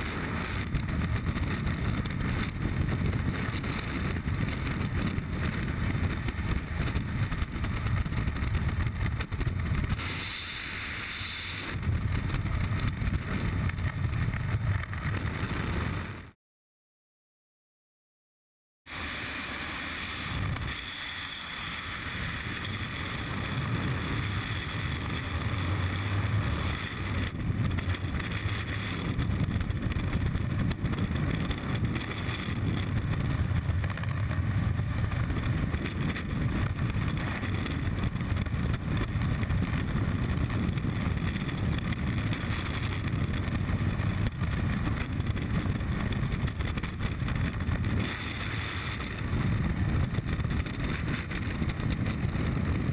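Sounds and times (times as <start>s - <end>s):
wind buffeting microphone: 0.0s - 16.3s, 20.1s - 52.9s.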